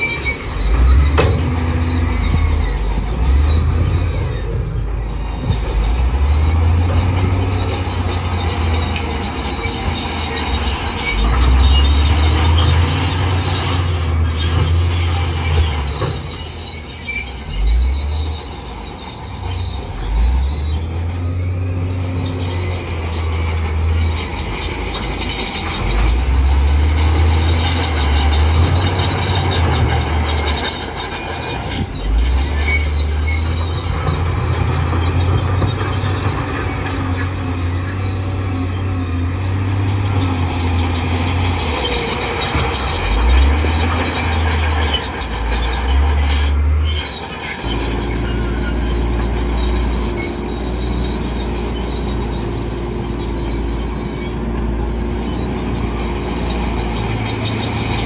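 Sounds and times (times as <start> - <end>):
heavy diesel machine engine: 0.0 - 58.0
high metallic squealing: 0.0 - 58.0.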